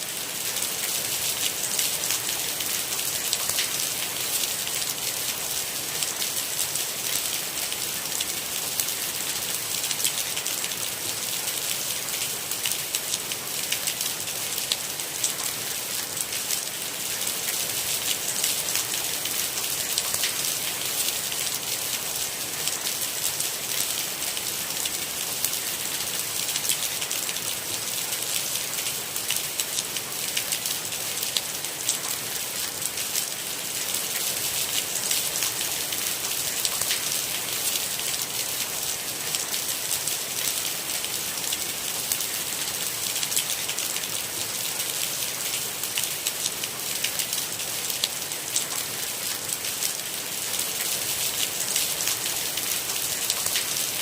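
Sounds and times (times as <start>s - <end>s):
steady rain on hard surface: 0.0s - 54.0s.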